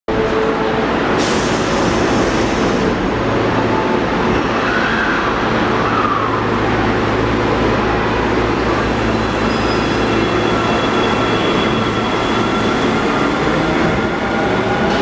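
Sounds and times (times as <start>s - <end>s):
standing train hum: 0.1s - 15.0s.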